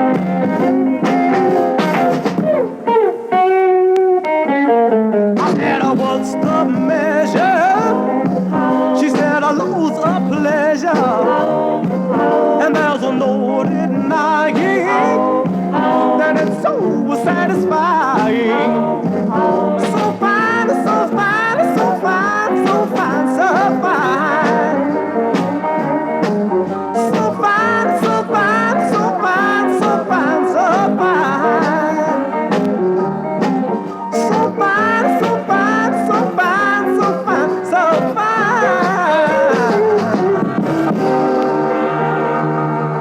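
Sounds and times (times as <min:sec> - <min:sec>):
vintage-style pop band instrumental: 0:00.0 - 0:43.0.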